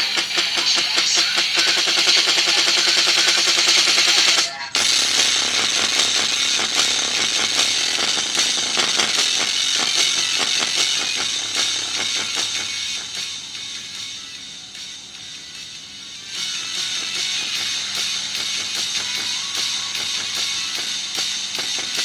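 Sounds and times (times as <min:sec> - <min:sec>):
music with fast pulsing beat: 0:00.0 - 0:22.0.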